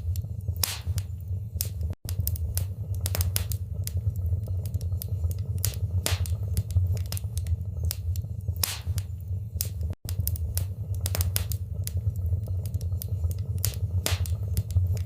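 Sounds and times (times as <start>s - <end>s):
fire pops and snaps: 0.0s - 15.0s
low rumble of burning: 0.0s - 15.0s.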